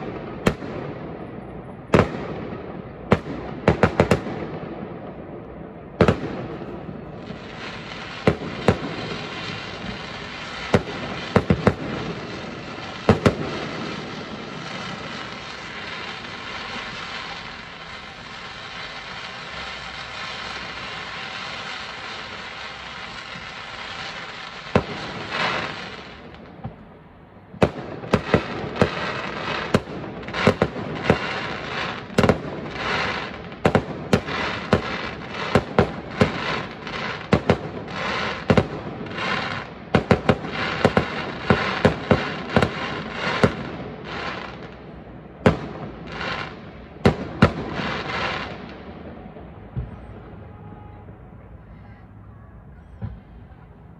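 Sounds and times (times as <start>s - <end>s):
fireworks bangs and crackles: 0.0s - 53.9s
firework fountains hissing: 6.0s - 27.1s, 27.7s - 50.0s.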